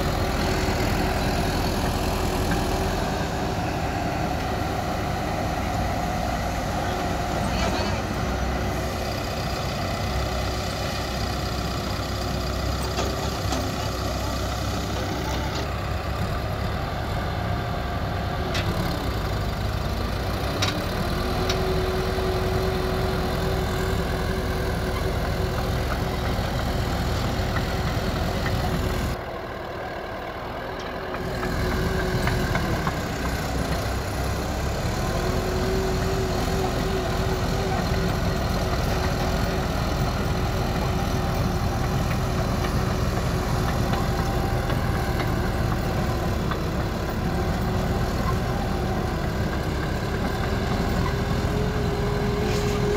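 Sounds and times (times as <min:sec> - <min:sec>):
heavy diesel engines under load: 0:00.0 - 0:52.9.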